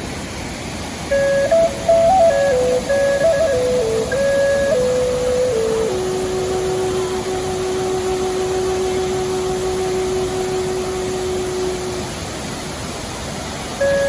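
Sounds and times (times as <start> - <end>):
waterfall rushing water: 0.0 - 14.0
long held music note: 1.1 - 12.5, 13.8 - 14.0.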